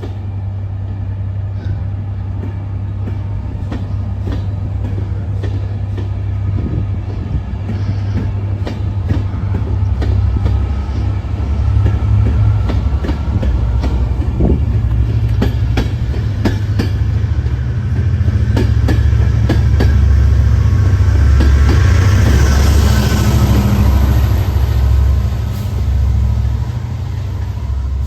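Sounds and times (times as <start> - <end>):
train hiss: 0.0 - 28.0
train rumbling over rails: 0.0 - 28.0.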